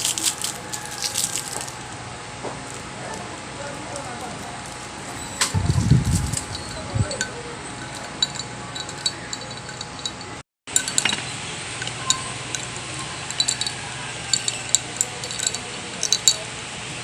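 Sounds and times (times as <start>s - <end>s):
small objects clinking: 0.0s - 2.0s, 2.6s - 16.5s.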